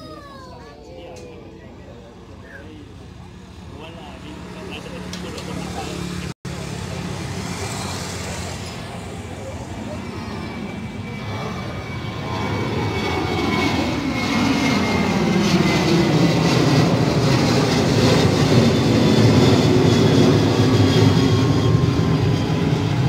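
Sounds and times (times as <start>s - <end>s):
jet airliner engines climbing: 0.0s - 23.0s.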